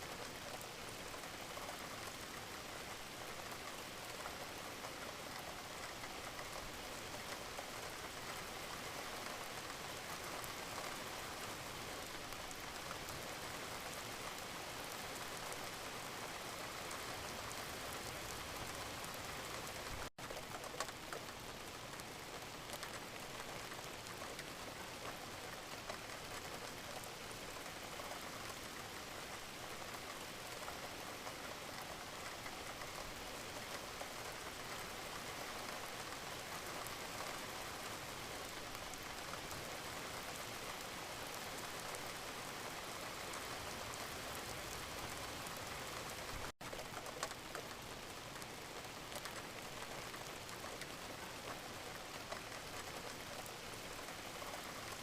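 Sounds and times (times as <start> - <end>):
gentle rain: 0.0 - 55.0.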